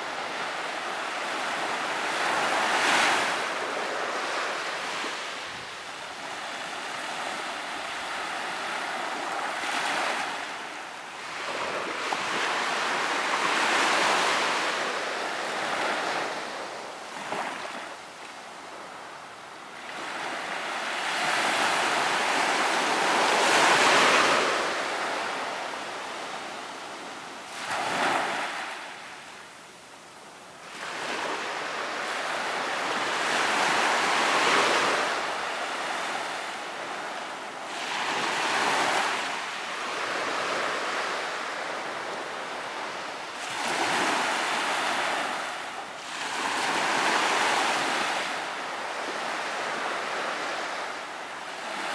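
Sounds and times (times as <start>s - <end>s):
ocean waves washing onto beach: 0.0s - 51.9s.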